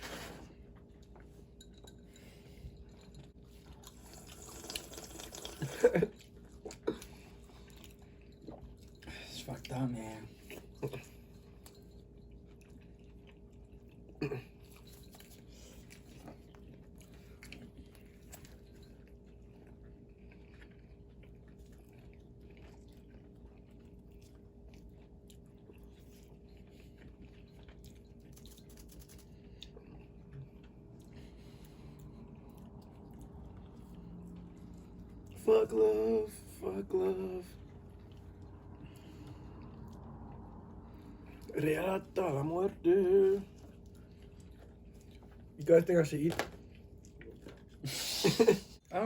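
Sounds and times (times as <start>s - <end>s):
steady low hum: 0.0s - 49.0s
chewing and biting food: 0.6s - 47.9s.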